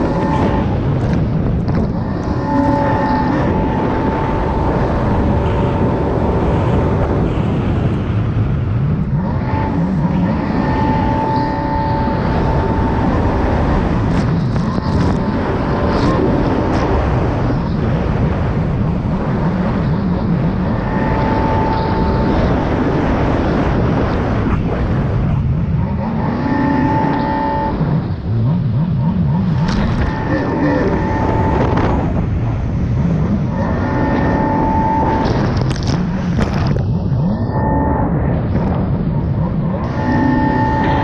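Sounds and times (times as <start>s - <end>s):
high whine: 0.0s - 41.0s
jet ski engine running hard: 0.0s - 41.0s
water and wind rushing: 0.0s - 41.0s.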